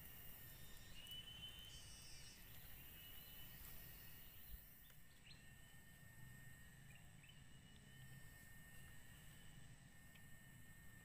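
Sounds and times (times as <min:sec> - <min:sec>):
insect chirring: 0:00.0 - 0:11.0.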